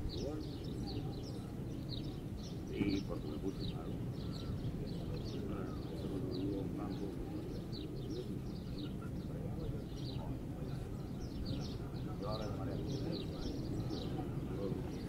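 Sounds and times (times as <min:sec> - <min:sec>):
murmur of distant voices: 0:00.0 - 0:15.0.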